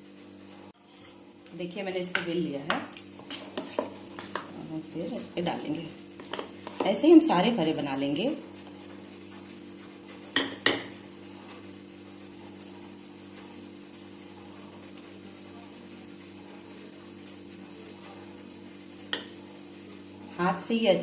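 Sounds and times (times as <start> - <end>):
low hum of appliance: 0.0 - 21.0.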